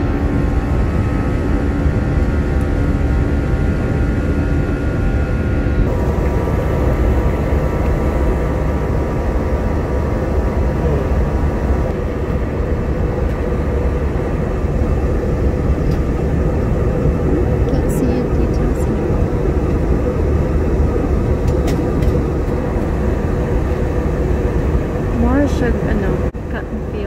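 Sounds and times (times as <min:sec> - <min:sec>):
jet engine and airflow rumble: 0:00.0 - 0:27.0.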